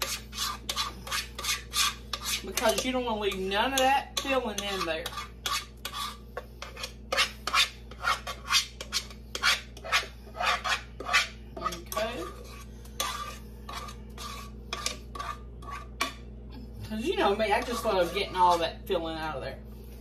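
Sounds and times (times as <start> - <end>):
utensil scraping a mixing bowl: 0.0 - 19.3.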